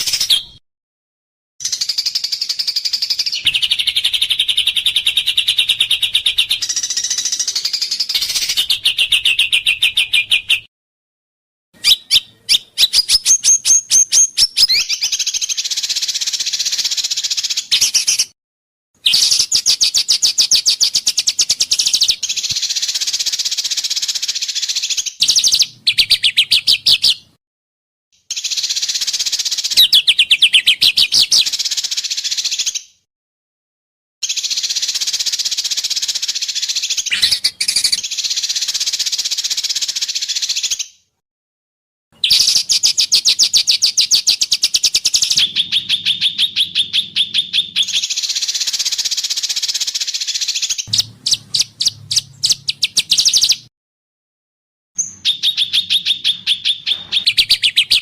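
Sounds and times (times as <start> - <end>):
songbirds singing trills: 1.6 - 10.7, 11.8 - 18.4, 19.0 - 27.4, 28.2 - 33.0, 34.2 - 41.1, 42.2 - 53.7, 55.0 - 58.0.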